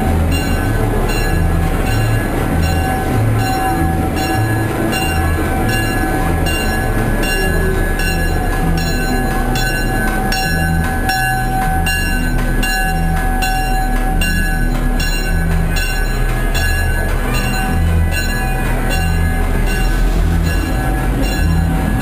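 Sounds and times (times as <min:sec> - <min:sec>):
rhythmic wheel clatter: 0:00.0 - 0:22.0
thin whine of wheels on rails: 0:00.0 - 0:22.0
train carriage rumble: 0:00.0 - 0:22.0.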